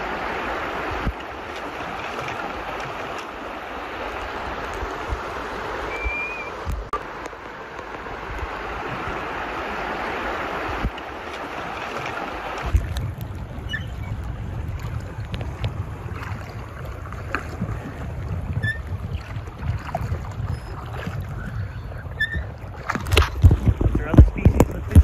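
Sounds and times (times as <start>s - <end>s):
wind buffeting microphone: 0.0s - 7.0s, 8.0s - 25.0s
river water rippling over gravel: 0.0s - 25.0s.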